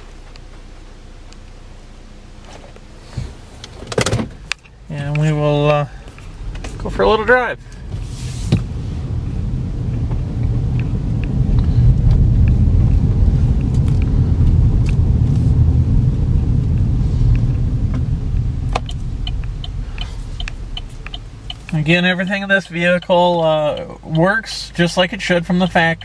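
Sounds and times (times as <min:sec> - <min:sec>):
car tyres and engine rumble: 0:00.0 - 0:26.0.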